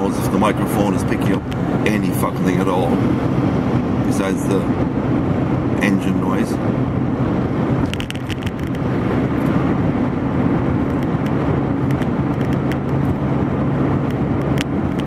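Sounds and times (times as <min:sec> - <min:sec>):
car engine hum: 0:00.0 - 0:15.0
road noise rush: 0:00.0 - 0:15.0.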